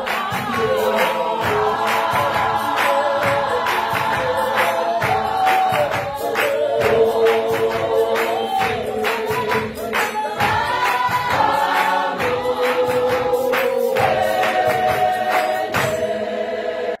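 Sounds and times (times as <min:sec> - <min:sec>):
percussive beat: 0:00.0 - 0:16.5
choir singing held chords: 0:00.0 - 0:17.0.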